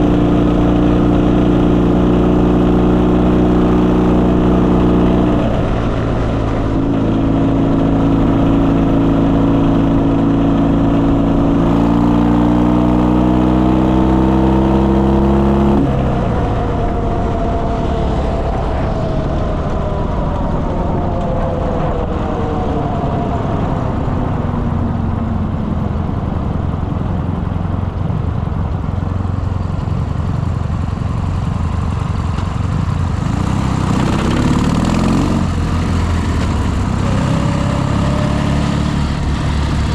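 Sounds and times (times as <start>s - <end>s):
motorcycle engine running: 0.0s - 22.1s, 24.0s - 39.9s.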